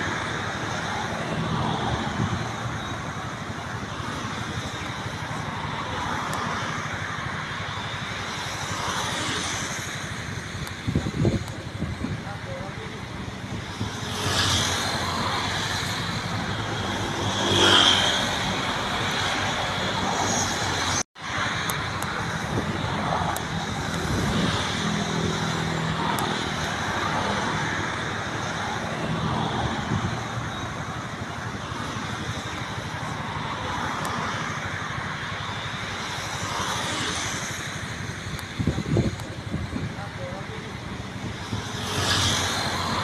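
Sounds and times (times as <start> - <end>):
cars passing: 0.0 - 43.0.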